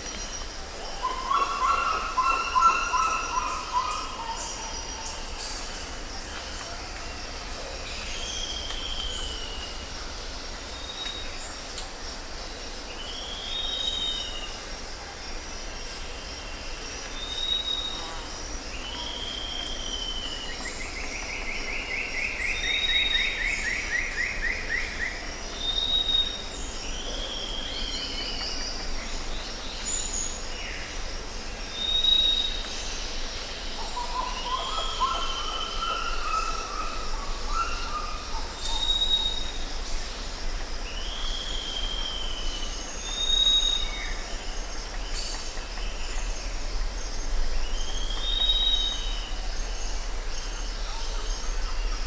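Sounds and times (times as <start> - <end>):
insects chorus: 0.0 - 52.0.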